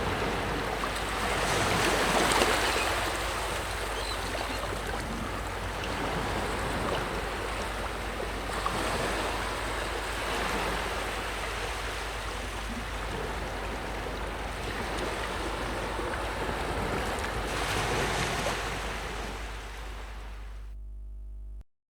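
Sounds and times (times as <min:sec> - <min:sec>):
ocean waves breaking on shore: 0:00.0 - 0:20.6.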